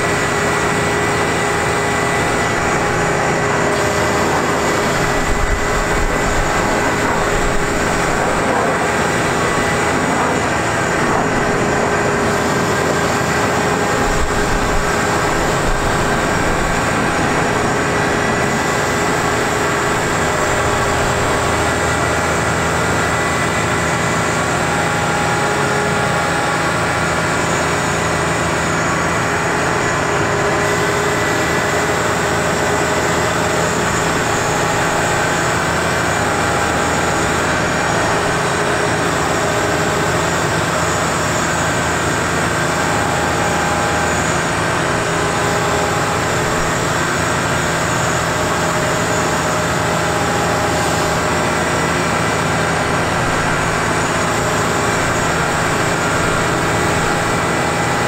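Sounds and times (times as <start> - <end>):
diesel engine running under load: 0.0 - 58.0
hydraulic auger boring into soil: 0.0 - 58.0.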